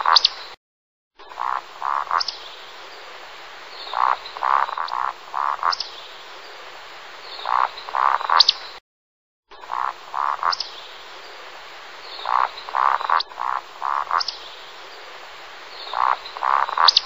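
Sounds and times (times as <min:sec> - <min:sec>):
frogs croaking in chorus: 0:01.2 - 0:06.4, 0:07.3 - 0:08.7, 0:09.6 - 0:17.0.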